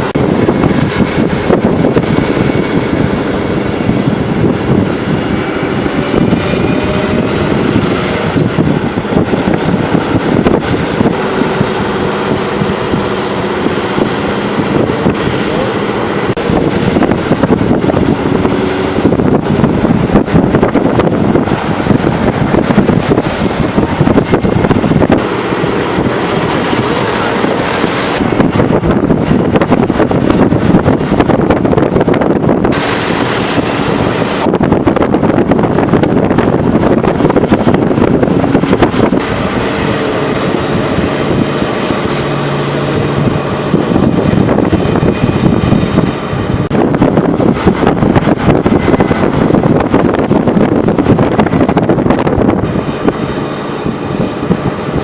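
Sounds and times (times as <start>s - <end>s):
truck engine running: 0.0s - 55.0s
tyre and wind noise: 0.0s - 55.0s.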